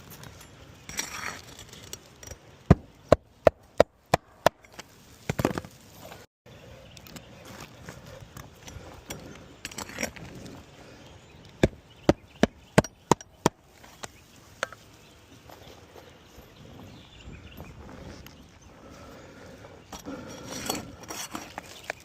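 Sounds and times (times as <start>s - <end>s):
handling and scraping noises: 0.0s - 3.0s, 4.4s - 22.0s.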